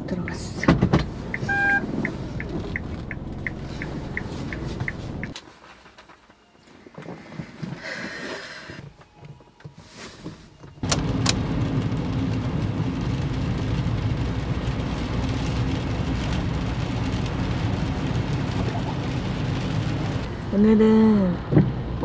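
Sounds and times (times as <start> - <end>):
road and engine noise inside car: 0.0 - 22.0.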